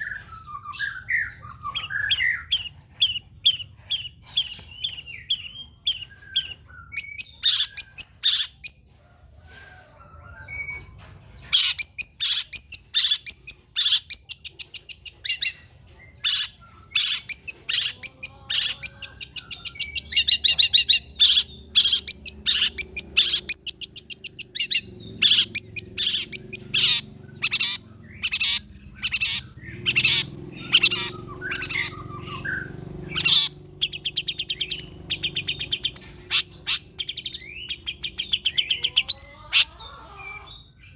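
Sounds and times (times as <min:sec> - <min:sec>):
bird singing chattering song: 0:00.0 - 0:08.9, 0:10.0 - 0:40.9.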